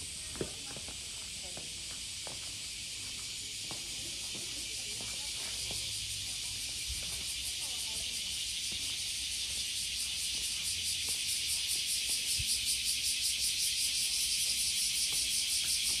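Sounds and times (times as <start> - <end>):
cicadas shrilling: 0.0 - 16.0
faint street rumble: 0.0 - 16.0.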